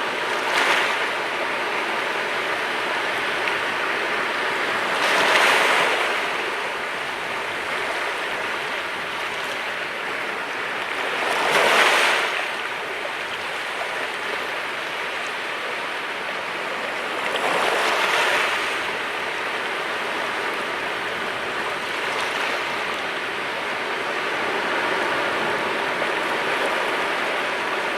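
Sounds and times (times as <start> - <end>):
sea waves breaking: 0.0 - 27.9
steady wash of water: 0.0 - 27.9.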